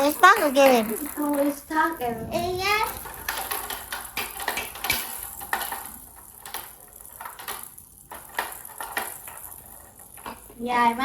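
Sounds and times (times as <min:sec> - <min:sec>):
plastic balls clicking and clattering: 0:00.0 - 0:11.0.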